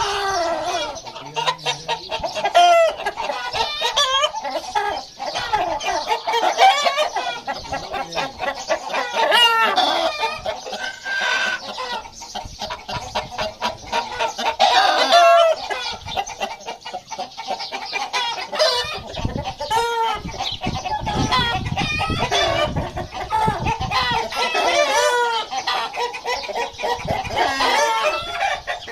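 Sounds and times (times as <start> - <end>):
hens clucking: 0.0 - 28.9
roosters crowing: 0.0 - 28.9.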